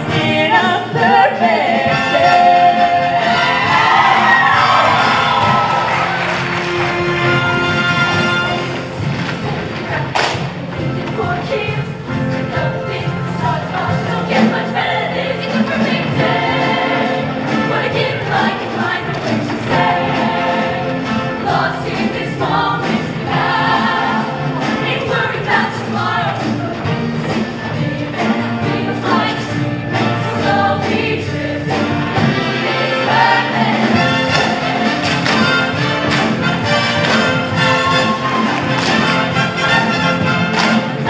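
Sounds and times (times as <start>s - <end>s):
female choir singing in harmony: 0.0s - 6.9s, 8.6s - 41.0s.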